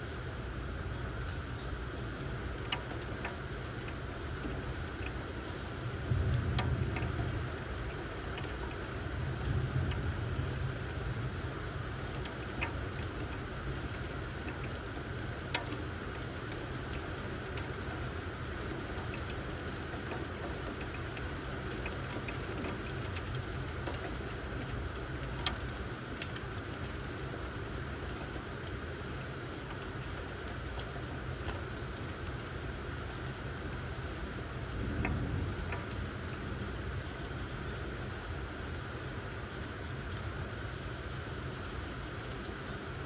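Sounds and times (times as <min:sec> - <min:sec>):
rain falling: 0:00.0 - 0:43.0
sharp water drips: 0:00.1 - 0:43.0.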